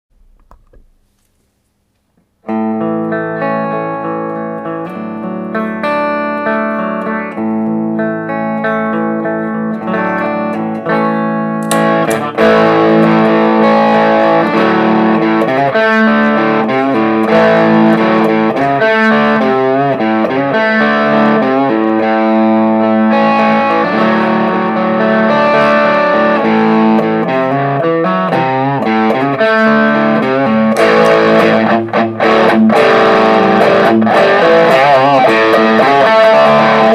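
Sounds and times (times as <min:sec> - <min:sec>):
distorted electric guitar: 0:02.4 - 0:36.9.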